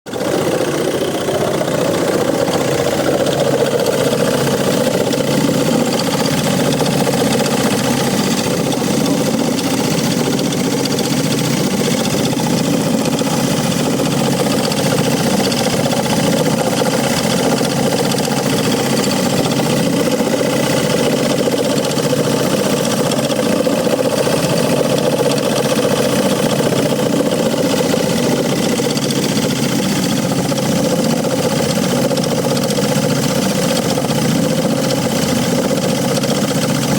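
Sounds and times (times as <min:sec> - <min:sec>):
diesel engine idling with rattle: 0:00.1 - 0:36.9.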